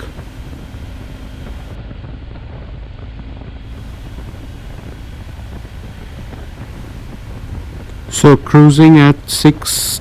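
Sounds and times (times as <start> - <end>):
motorcycle engine and road noise: 0.0 - 10.0
wind on microphone: 0.0 - 10.0.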